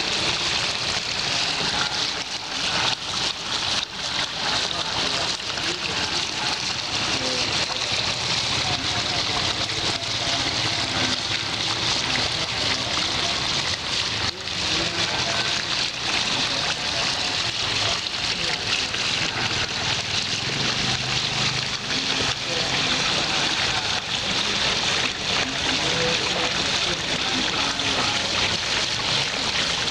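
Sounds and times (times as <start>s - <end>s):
water pouring and splashing: 0.0s - 29.9s.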